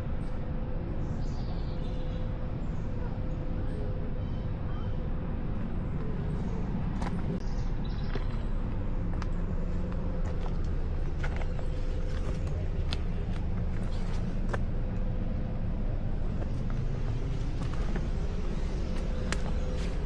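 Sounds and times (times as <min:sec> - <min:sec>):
faint steady hum: 0:00.0 - 0:20.0
low outdoor rumble: 0:00.0 - 0:20.0.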